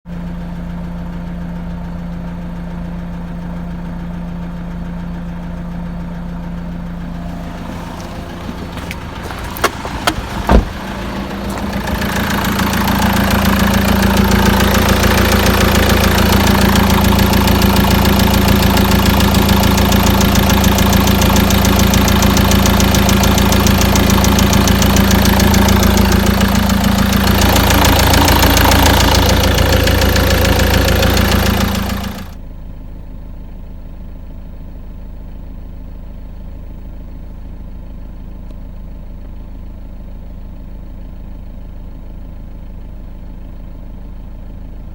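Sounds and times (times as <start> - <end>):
diesel engine idling with clatter: 0.1 - 44.9.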